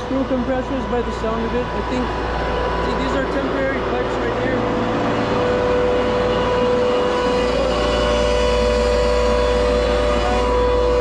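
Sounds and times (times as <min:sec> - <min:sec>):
air-cooled chiller running: 0:00.0 - 0:11.0.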